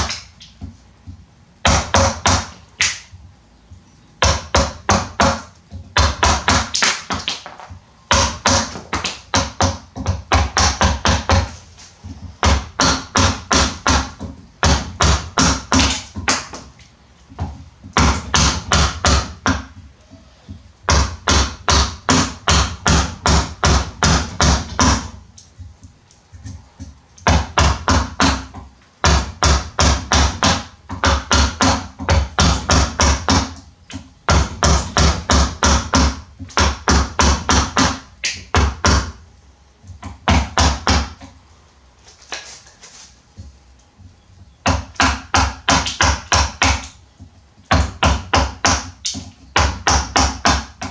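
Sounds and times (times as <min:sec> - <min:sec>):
rapid tapping on wood: 0:00.0 - 0:39.2, 0:39.8 - 0:41.4, 0:43.4 - 0:50.9.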